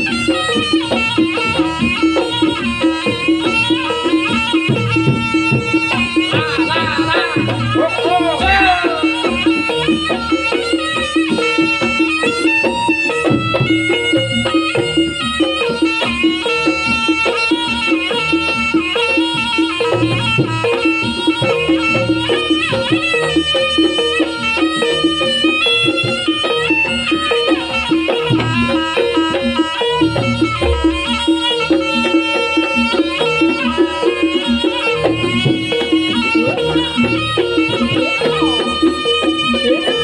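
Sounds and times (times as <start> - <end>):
drum strokes: 0.0 - 40.0
gamelan percussion: 0.0 - 40.0
reedy wind instrument melody: 0.0 - 40.0.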